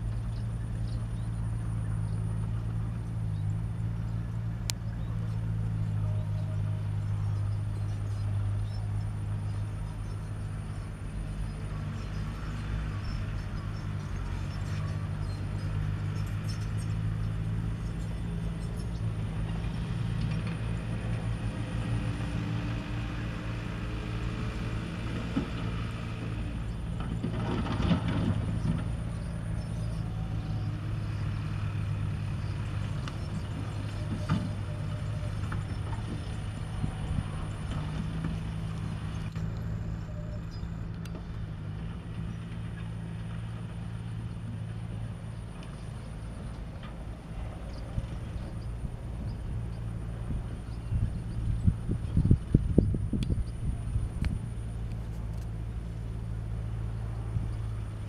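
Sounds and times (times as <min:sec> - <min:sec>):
distant diesel engines droning: 0:00.0 - 0:58.0.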